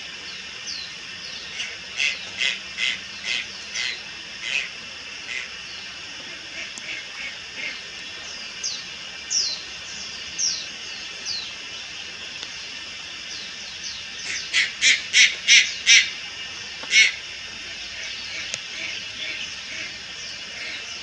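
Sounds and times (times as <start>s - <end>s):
night heron calling: 0.0s - 11.9s, 13.2s - 21.0s.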